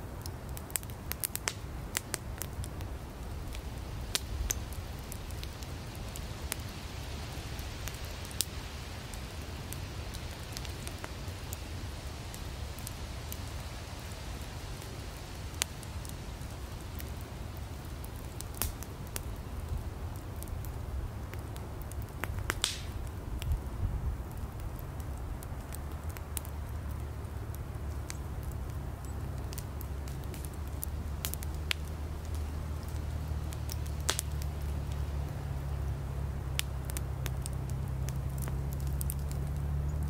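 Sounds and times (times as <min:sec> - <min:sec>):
campfire crackling: 0:00.0 - 0:40.0
fire hissing: 0:00.0 - 0:40.0.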